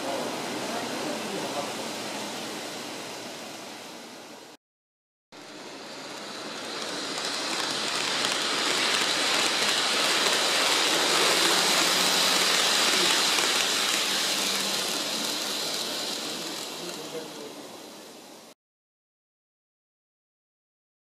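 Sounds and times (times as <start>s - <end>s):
model train wheels hissing on rail: 0.0s - 4.3s, 5.4s - 18.6s.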